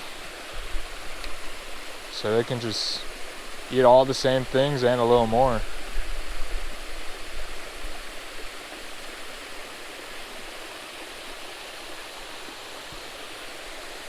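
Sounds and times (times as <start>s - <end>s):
water rushing over waterfall: 0.0s - 14.0s.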